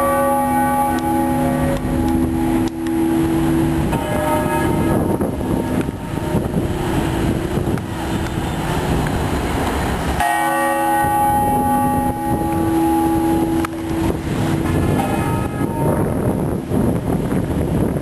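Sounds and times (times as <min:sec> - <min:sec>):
large bell tolling: 0:00.0 - 0:17.1
street noise: 0:00.0 - 0:18.0.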